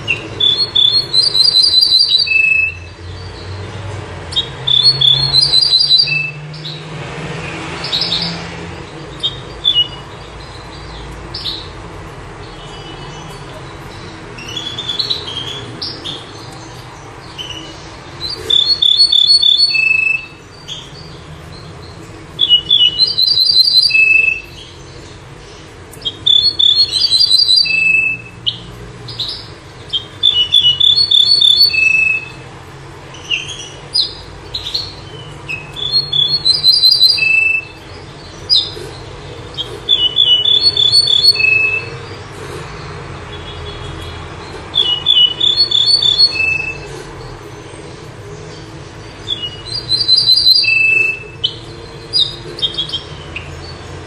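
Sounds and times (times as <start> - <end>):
bunting singing: 0.0 - 54.0.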